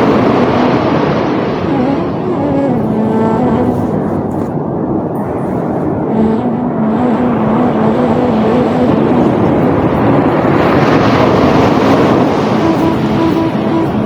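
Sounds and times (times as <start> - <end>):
sea waves washing in: 0.0 - 14.0
soft sustained music: 0.0 - 14.0.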